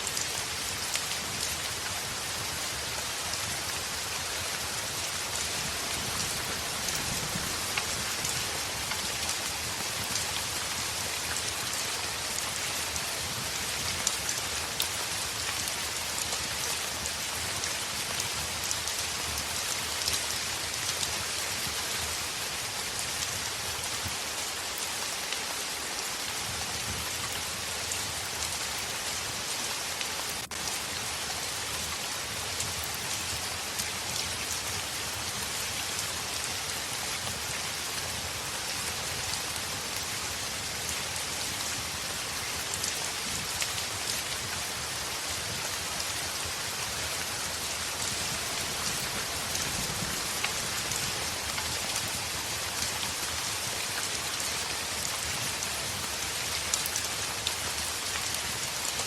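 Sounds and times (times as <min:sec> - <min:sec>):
heavy rain on a window: 0:00.0 - 0:59.0.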